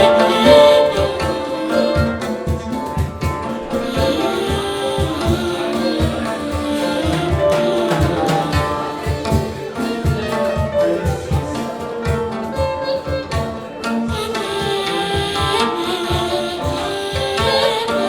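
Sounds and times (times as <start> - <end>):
drums keeping a steady beat: 0.0 - 18.0
plucked strings: 0.0 - 18.0.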